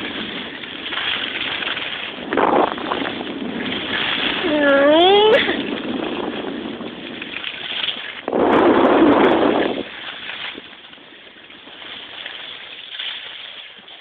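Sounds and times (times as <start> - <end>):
wind rushing over microphone: 0.0 - 12.3.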